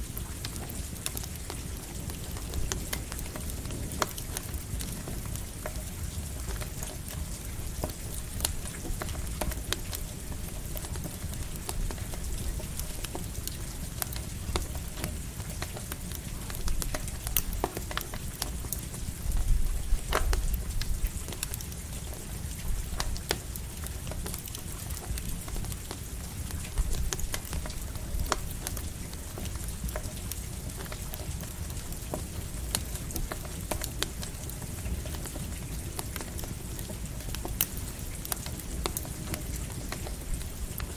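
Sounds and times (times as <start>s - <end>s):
campfire crackling: 0.0s - 40.9s
light rain: 0.0s - 40.9s.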